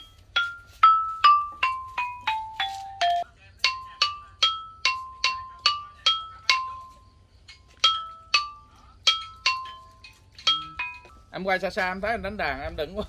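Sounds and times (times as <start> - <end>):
mallet percussion notes: 0.0 - 11.5.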